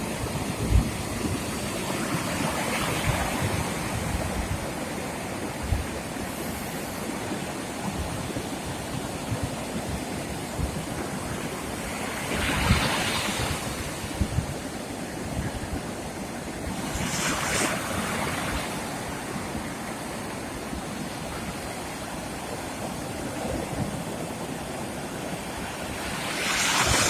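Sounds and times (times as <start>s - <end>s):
sea waves washing onto beach: 0.0s - 27.0s
wind buffeting microphone: 0.0s - 27.0s.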